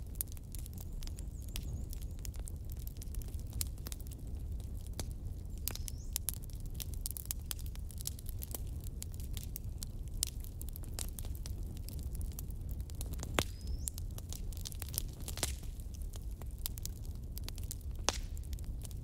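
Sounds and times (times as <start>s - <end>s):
burning wood crackling and popping: 0.0s - 19.0s
flames rumbling: 0.0s - 19.0s.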